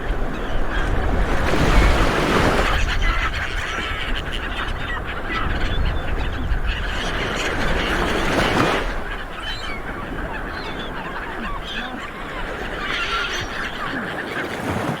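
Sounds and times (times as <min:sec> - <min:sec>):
flock of seabirds honking: 0:00.0 - 0:15.0.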